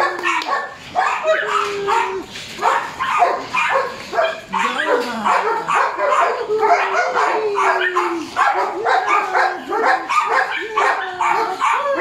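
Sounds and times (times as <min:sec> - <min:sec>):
puppy barking and yipping: 0:00.0 - 0:12.0.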